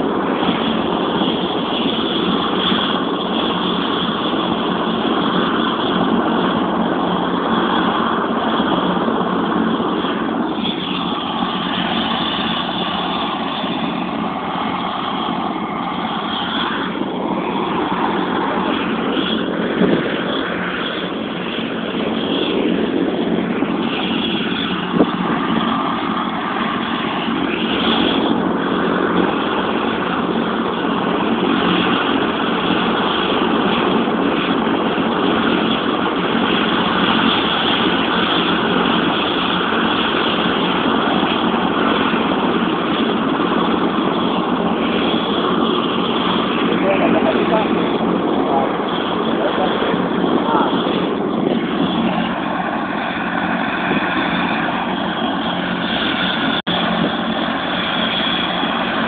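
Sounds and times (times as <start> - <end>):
helicopter running: 0.0 - 59.0.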